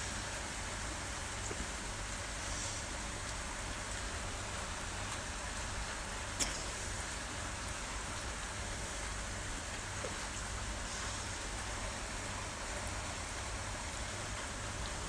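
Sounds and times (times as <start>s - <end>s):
rain pouring: 0.0s - 15.0s.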